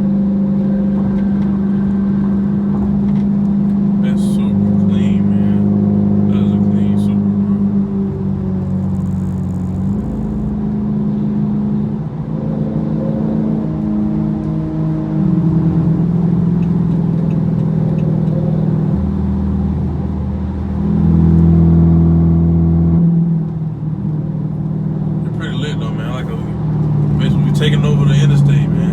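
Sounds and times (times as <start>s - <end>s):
car engine drone: 0.0s - 28.9s
road noise inside car: 0.0s - 28.9s.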